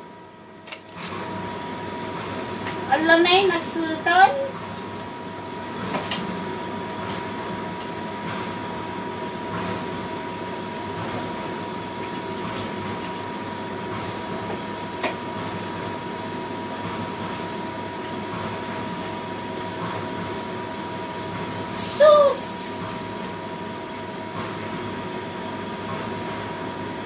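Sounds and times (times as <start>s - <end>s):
range hood fan whirring: 0.0s - 27.0s.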